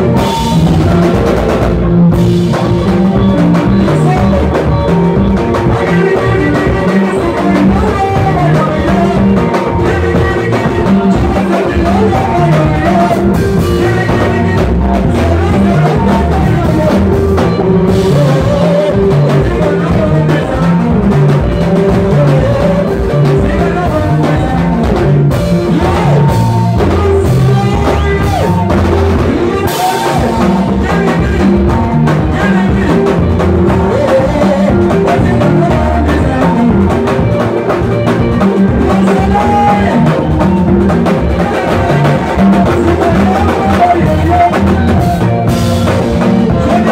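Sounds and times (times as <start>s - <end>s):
driving drum kit: 0.0s - 46.9s
electric guitar lines: 0.0s - 46.9s.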